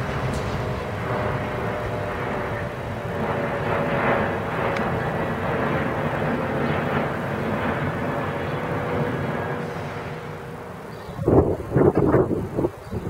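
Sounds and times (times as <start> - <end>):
distant vehicle rumble: 0.0 - 12.6.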